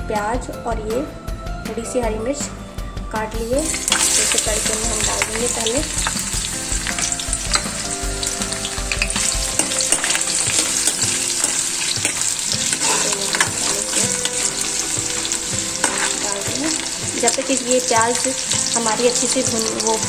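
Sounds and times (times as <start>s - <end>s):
onions sizzling in hot oil: 3.5s - 20.0s
ladle stirring in oil: 3.6s - 20.0s.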